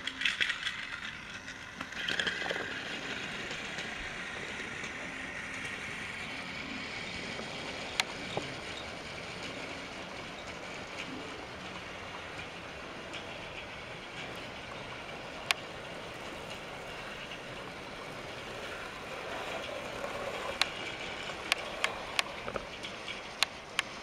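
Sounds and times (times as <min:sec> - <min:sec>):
toy train motor whirring: 0:00.0 - 0:24.0.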